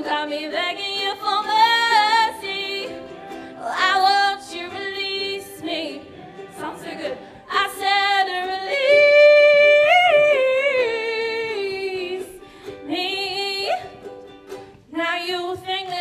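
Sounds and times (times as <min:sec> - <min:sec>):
woman singing: 0:00.0 - 0:14.1, 0:14.9 - 0:16.0
ukulele: 0:00.0 - 0:16.0.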